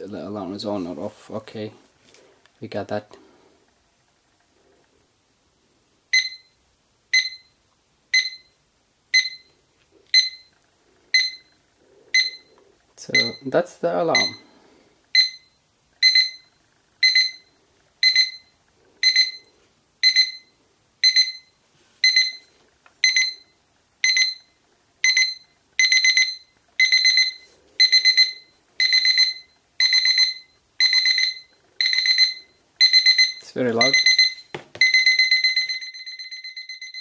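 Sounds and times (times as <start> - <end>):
alarm clock beeping: 6.1 - 10.5, 11.1 - 37.0.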